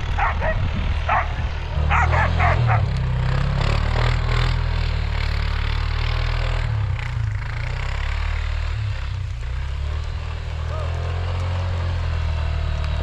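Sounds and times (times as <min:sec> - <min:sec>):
rushing road noise: 0:00.0 - 0:13.0
vehicle engine running: 0:00.0 - 0:13.0.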